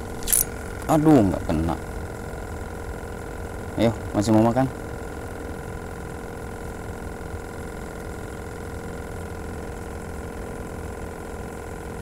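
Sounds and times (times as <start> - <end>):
motor drone: 0.0 - 12.0.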